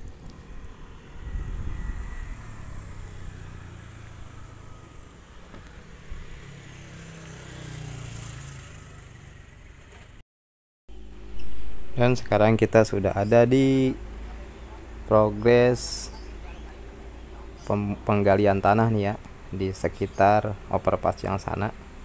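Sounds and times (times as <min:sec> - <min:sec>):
vehicle engine passing: 0:00.0 - 0:10.2, 0:10.9 - 0:22.0.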